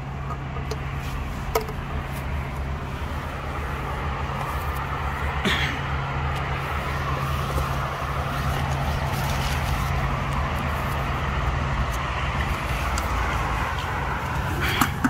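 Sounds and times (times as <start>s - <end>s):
constant low hum: 0.0s - 15.0s
vehicle engine noise: 0.0s - 15.0s.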